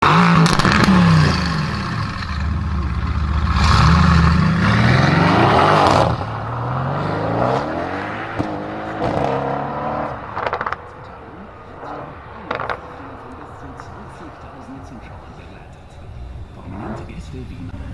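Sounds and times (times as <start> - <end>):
car engine revving hard: 0.0 - 10.8, 11.8 - 15.4, 16.6 - 17.3.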